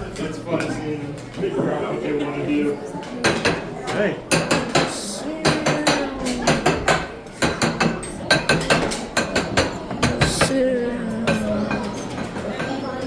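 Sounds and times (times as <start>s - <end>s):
children calling: 2.2s - 13.0s.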